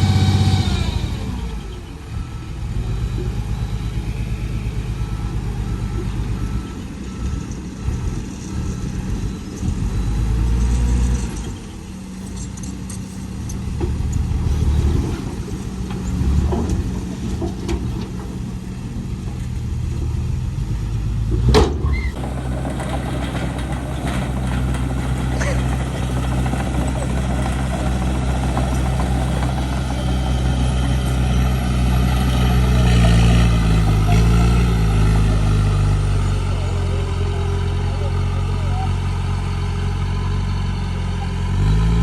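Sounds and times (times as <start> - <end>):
heavy diesel machinery engine: 0.0 - 42.0.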